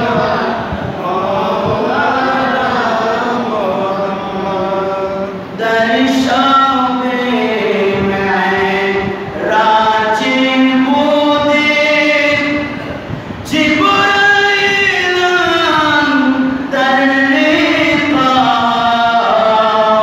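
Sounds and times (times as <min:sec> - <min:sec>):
man chanting into a microphone: 0:00.0 - 0:20.0.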